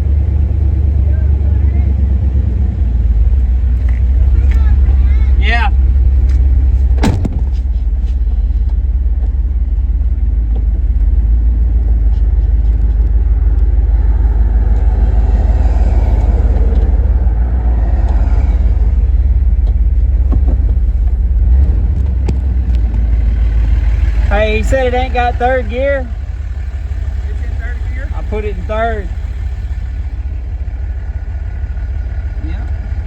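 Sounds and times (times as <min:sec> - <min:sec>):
pickup truck engine rumble: 0:00.0 - 0:33.0.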